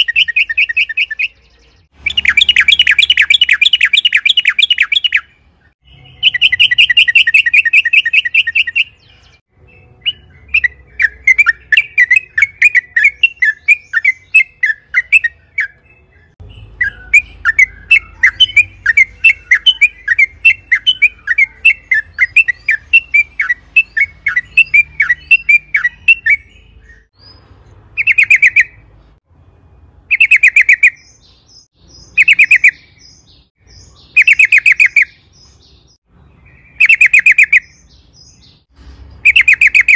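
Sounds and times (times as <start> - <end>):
bird chattering song: 0.0 - 28.9, 30.1 - 39.9.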